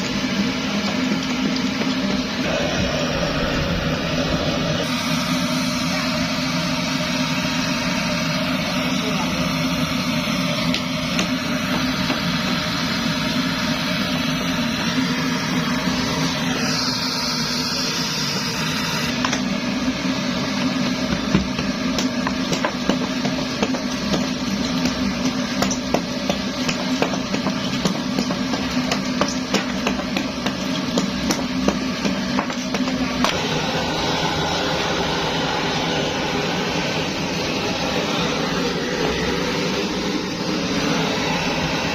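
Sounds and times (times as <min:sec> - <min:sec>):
pressure stove humming: 0:00.0 - 0:41.9.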